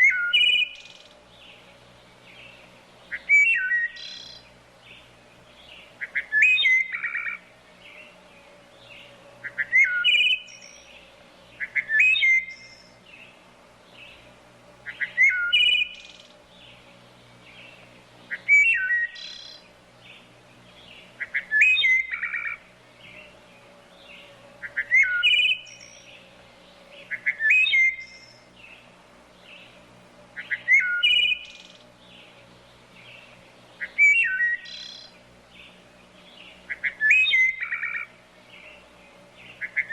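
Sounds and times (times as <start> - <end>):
songbird chirps and whistles: 0.0 - 28.8, 30.4 - 39.9.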